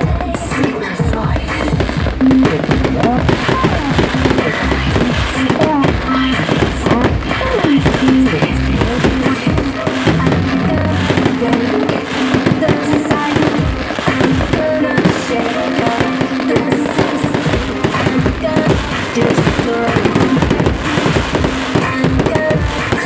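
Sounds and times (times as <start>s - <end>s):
fireworks banging and crackling: 0.0s - 23.0s
loud music: 0.0s - 23.0s.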